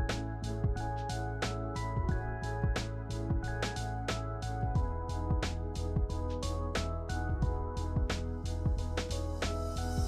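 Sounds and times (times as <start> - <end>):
music with sustained melody: 0.0 - 10.0.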